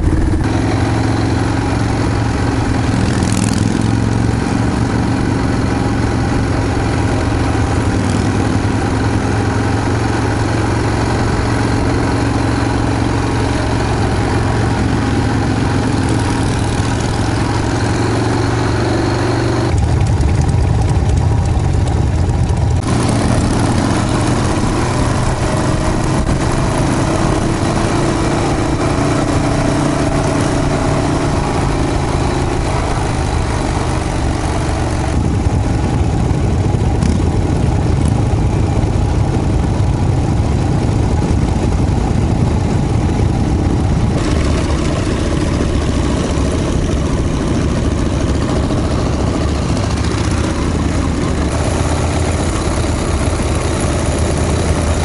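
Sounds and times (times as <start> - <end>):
motorcycle engines running: 0.0 - 55.0
wind rushing over microphone: 0.0 - 55.0.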